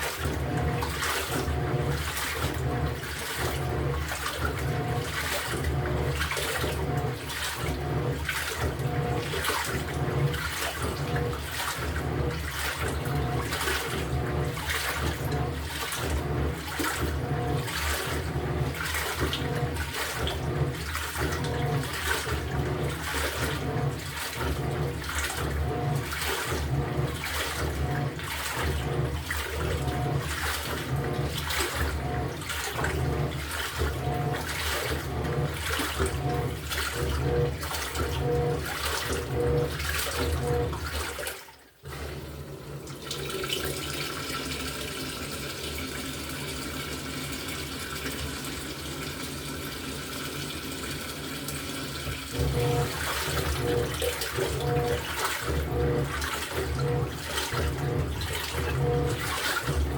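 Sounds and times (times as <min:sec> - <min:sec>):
washing machine water swishing: 0:00.0 - 0:59.9.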